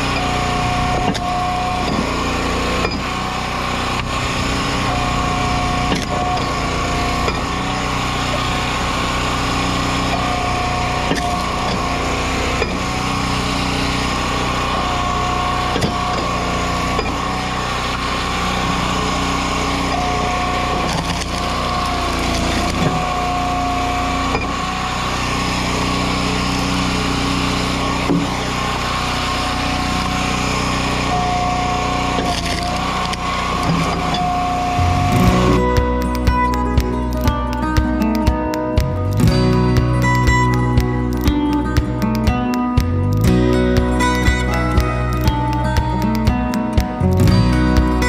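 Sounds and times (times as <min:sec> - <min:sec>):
high hydraulic whine: 0:00.0 - 0:42.2
log splitter engine running: 0:00.0 - 0:48.0.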